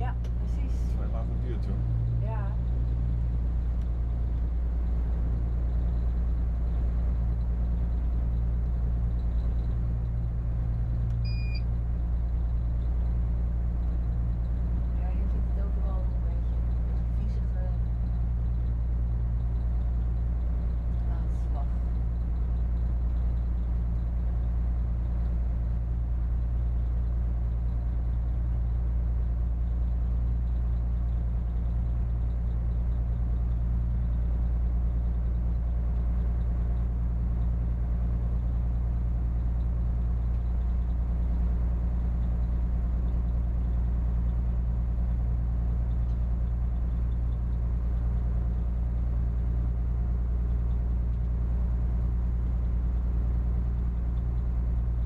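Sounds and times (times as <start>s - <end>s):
diesel boat engine droning: 0.0s - 55.0s.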